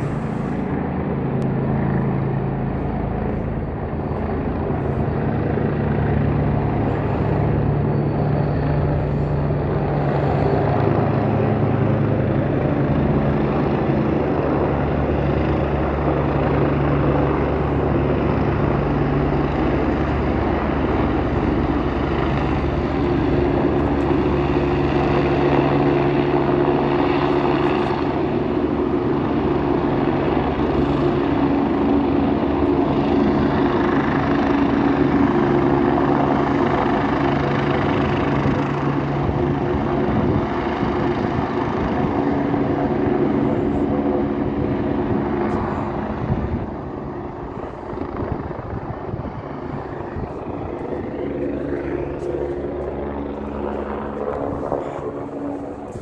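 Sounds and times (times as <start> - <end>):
distant helicopter rotor drone: 0.0 - 56.0.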